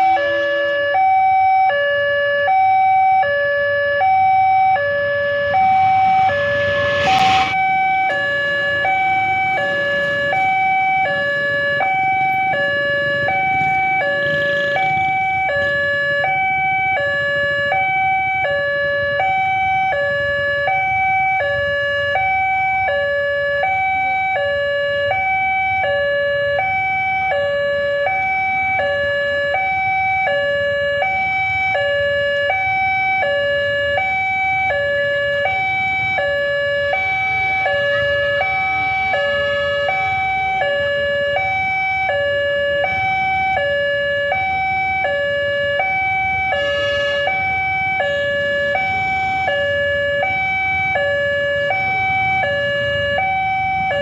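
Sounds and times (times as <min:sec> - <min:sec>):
two-tone crossing warning alarm: 0:00.0 - 0:54.0.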